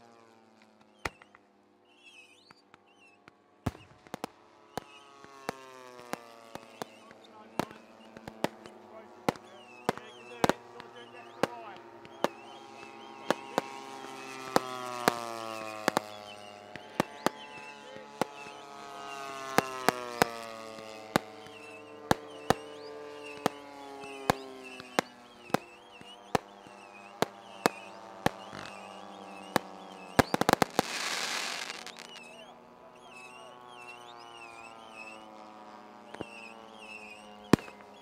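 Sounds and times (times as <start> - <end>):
firework pops: 0.6 - 32.3, 36.1 - 38.0.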